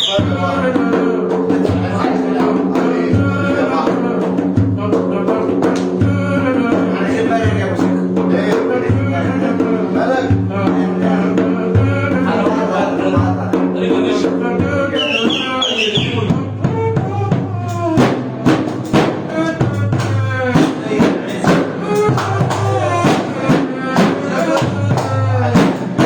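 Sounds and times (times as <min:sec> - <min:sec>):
instrumental music with steady beat: 0:00.0 - 0:26.0.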